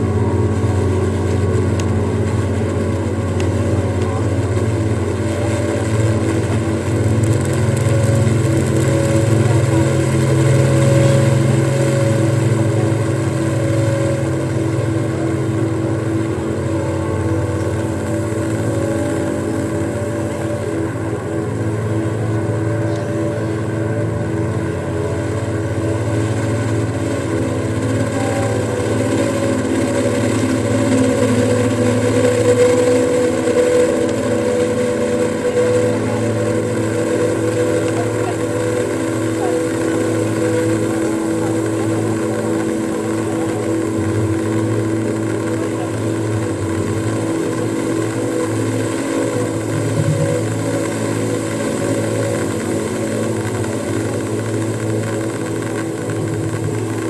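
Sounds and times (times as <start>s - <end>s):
ambient drone guitar music: 0.0s - 57.0s.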